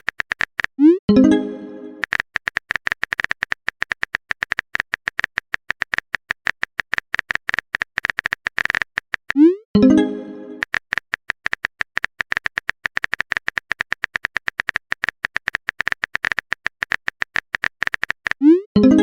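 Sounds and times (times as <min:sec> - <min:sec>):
phone keyboard taps: 0:02.0 - 0:09.4, 0:10.6 - 0:18.4.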